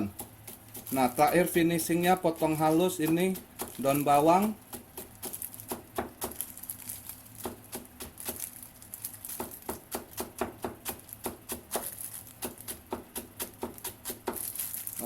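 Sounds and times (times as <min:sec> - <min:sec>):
knife chopping on cutting board: 0:00.0 - 0:06.5, 0:07.4 - 0:08.5, 0:09.3 - 0:14.5.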